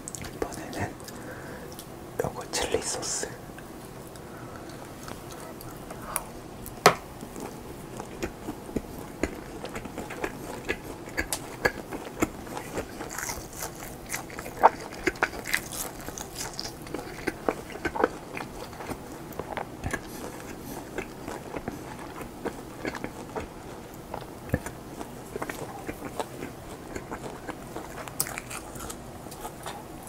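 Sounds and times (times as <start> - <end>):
biting and chewing: 4.6 - 30.0.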